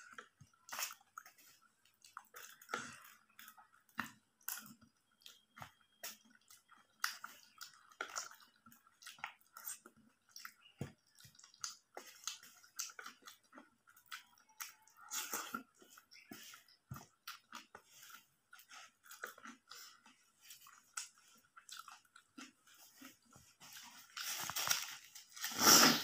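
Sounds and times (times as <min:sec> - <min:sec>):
wet chewing and squishing: 0:00.0 - 0:25.9
mouth clicks and smacks: 0:00.1 - 0:23.2.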